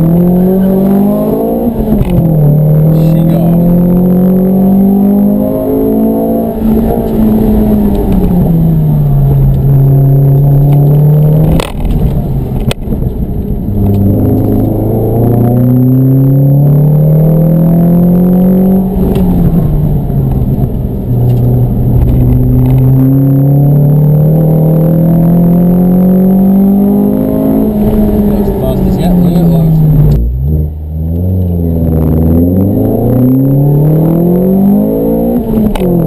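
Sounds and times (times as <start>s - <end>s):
car engine accelerating hard: 0.0s - 36.0s.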